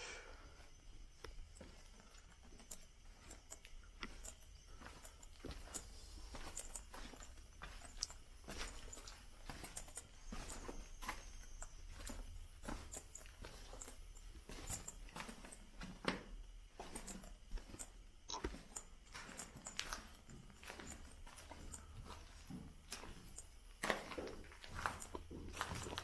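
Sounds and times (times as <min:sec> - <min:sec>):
footsteps crunching on rocky floor: 0:00.6 - 0:26.0.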